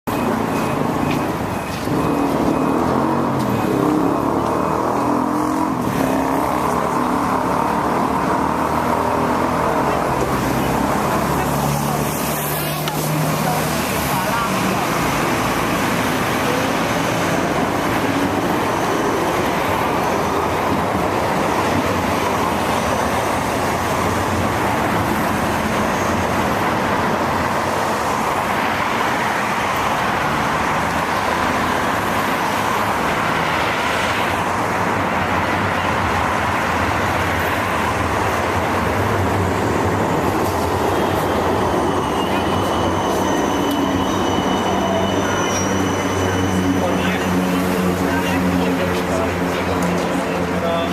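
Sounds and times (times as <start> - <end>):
tram and street traffic roar: 0.0 - 50.9
steel wheels squealing on rails: 0.1 - 8.7, 9.5 - 50.9.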